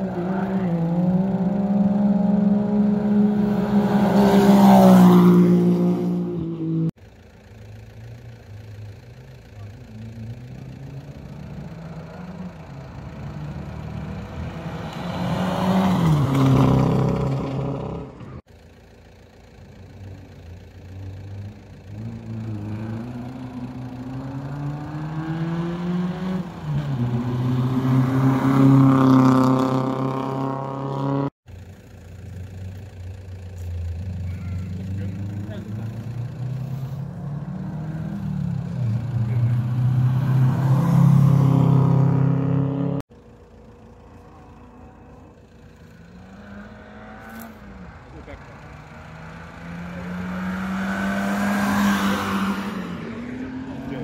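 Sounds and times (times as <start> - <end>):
rally cars revving past: 0.0 - 7.0, 10.3 - 18.4, 21.2 - 31.4, 33.7 - 43.1, 44.0 - 54.0.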